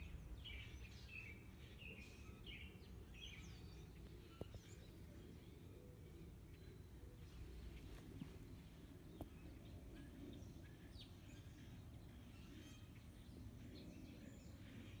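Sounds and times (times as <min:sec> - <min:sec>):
bird chirps: 0:00.0 - 0:15.0
low steady rumble: 0:00.0 - 0:15.0.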